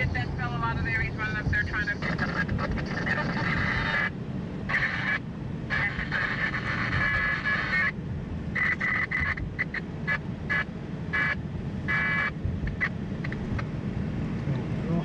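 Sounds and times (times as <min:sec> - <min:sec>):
two-way radio transmissions: 0:00.0 - 0:13.7
car road noise: 0:00.0 - 0:15.0.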